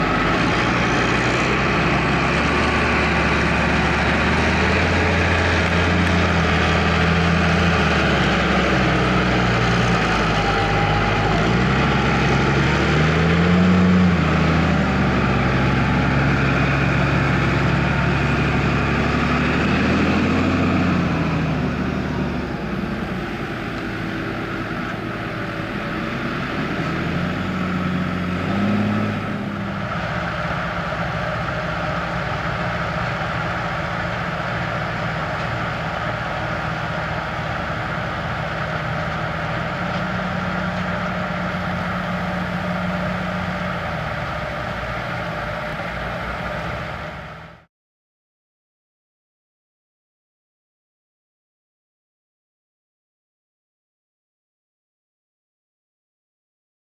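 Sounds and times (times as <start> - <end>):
tractor diesel engine running: 0.0 - 47.7.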